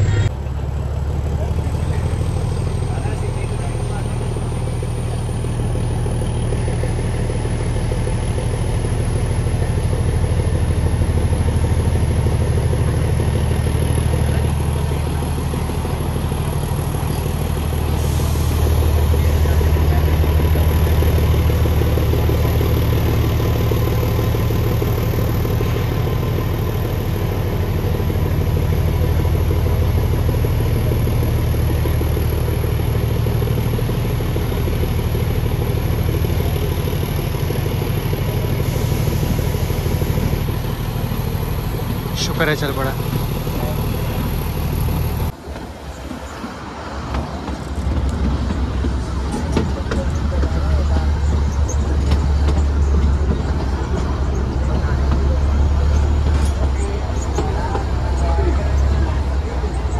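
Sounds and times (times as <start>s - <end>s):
diesel locomotive engine labouring: 0.0s - 59.9s.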